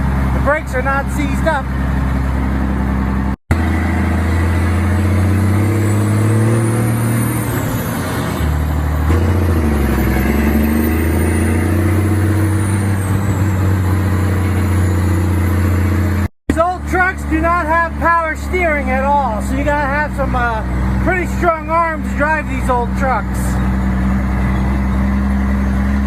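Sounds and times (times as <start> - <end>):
truck engine running: 0.0 - 26.0.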